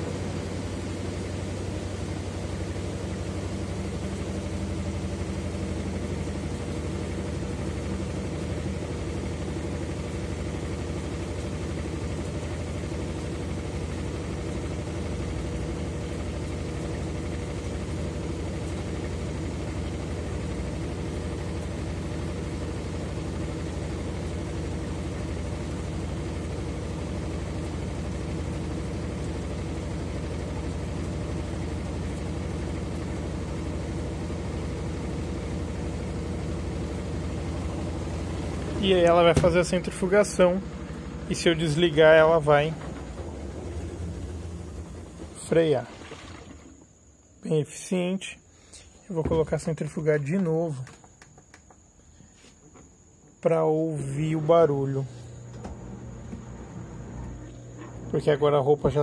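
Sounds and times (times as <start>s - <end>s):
washing machine spinning: 0.0s - 47.0s, 55.4s - 59.0s.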